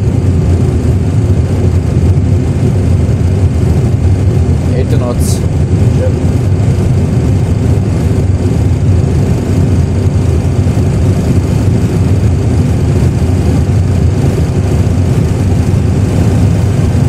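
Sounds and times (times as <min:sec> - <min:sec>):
jet engines and runway rumble: 0:00.0 - 0:17.0.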